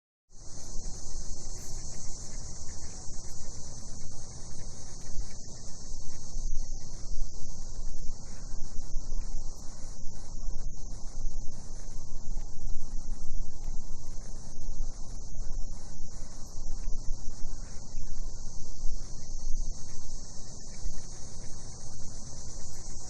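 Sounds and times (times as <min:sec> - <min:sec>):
cicadas buzzing: 0:00.4 - 0:23.0.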